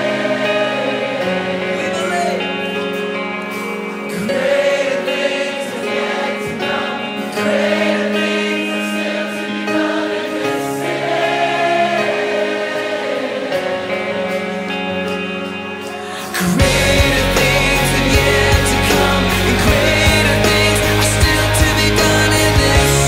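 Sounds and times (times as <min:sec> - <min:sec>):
worship music with choir singing: 0:00.0 - 0:23.0.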